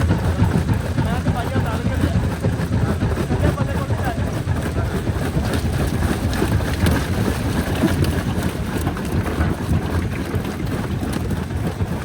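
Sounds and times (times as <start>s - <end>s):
jaw crusher rumbling: 0.0s - 12.0s.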